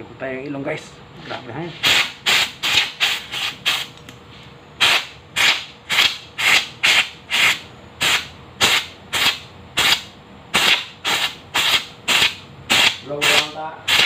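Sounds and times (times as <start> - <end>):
compressed air blasts: 1.8 - 4.0, 4.8 - 14.0.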